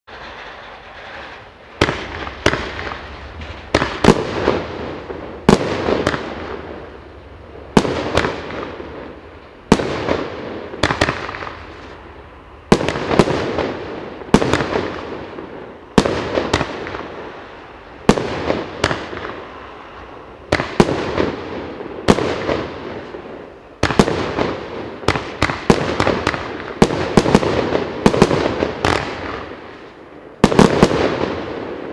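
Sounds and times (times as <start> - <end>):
firework bangs and crackle: 0.0 - 31.9.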